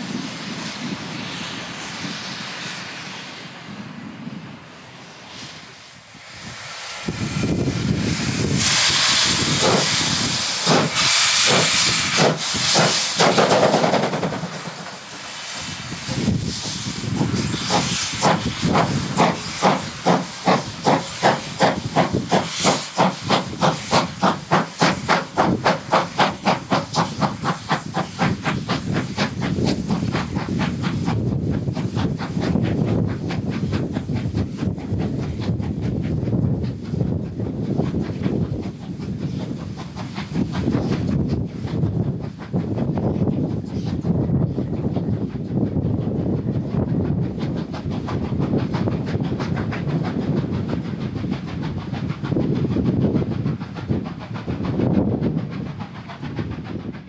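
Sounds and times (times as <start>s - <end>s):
steam hissing blasts: 0.0s - 57.0s
steam locomotive chuffing: 0.0s - 57.0s.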